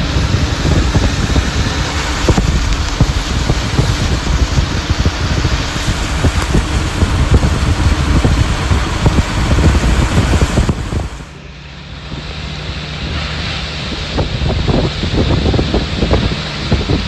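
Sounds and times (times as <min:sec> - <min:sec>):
low vehicle hum: 0:00.0 - 0:17.0
rain noise: 0:00.0 - 0:17.0
wind buffeting microphone: 0:00.0 - 0:17.0.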